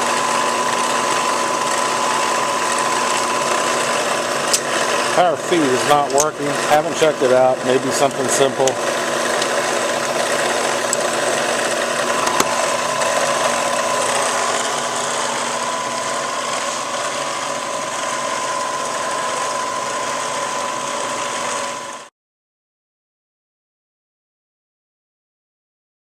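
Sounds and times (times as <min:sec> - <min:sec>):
milling machine whirring: 0:00.0 - 0:22.1.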